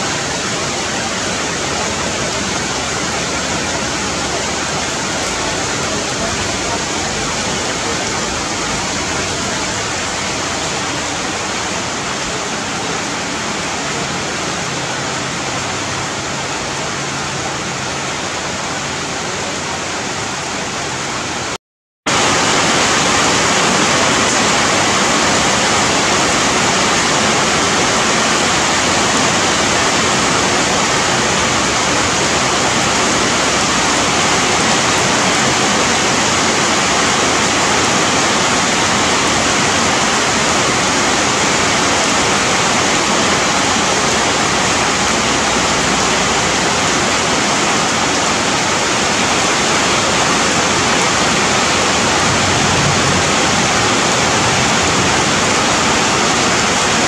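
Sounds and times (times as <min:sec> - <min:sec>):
heavy rain on leaves: 0:00.0 - 0:57.0.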